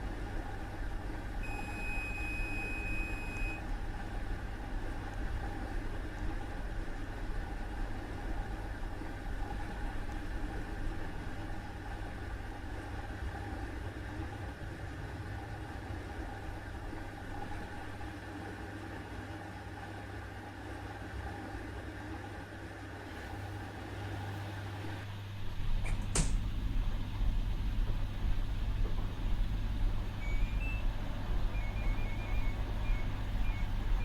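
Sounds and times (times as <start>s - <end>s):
washing machine motor hum: 0.0s - 34.0s.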